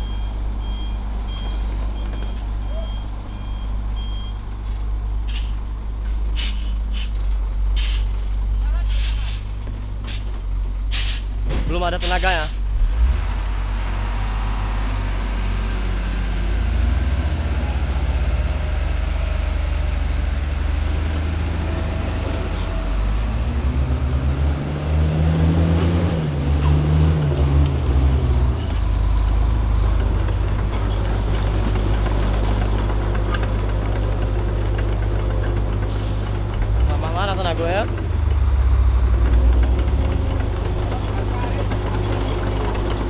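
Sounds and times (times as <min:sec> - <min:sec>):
diesel truck engine labouring: 0:00.0 - 0:43.0.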